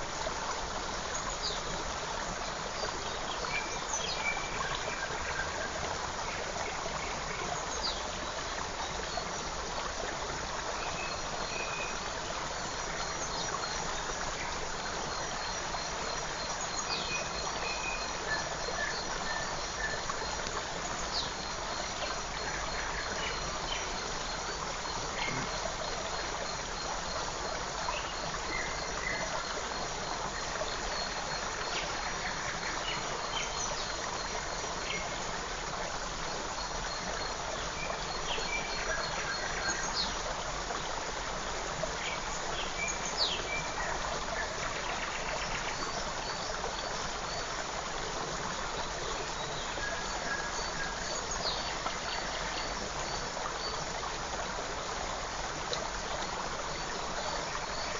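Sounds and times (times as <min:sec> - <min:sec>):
creek running: 0:00.0 - 0:57.9.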